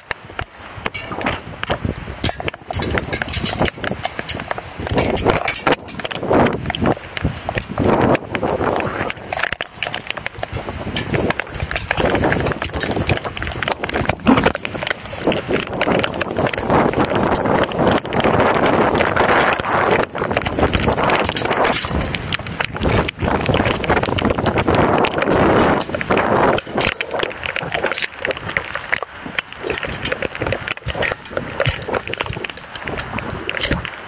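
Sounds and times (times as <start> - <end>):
wind gusting across microphone: 0.0 - 34.0.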